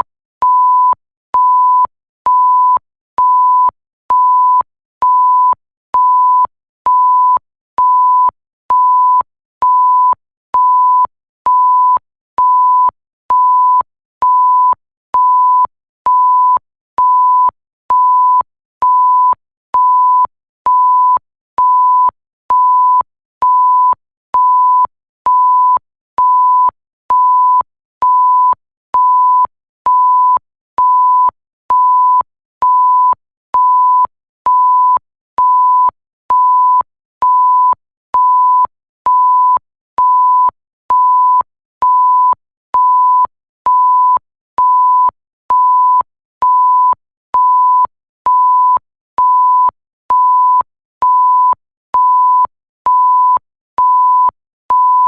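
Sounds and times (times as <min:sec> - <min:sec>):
electronic censor bleep: 0:00.0 - 0:55.0.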